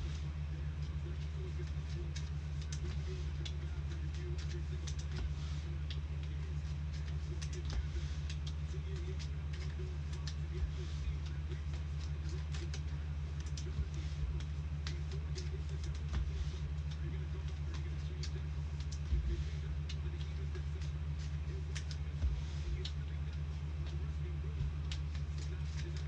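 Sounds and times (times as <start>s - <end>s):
low electrical hum: 0.0s - 26.0s
trading cards clicking and sliding: 0.0s - 26.0s.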